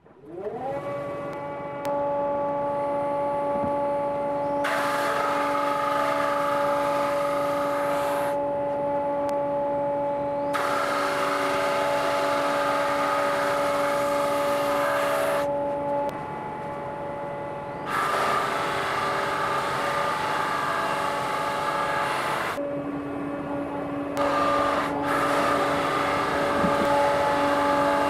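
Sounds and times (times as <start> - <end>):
drum sander and extractor humming: 0.0 - 28.0.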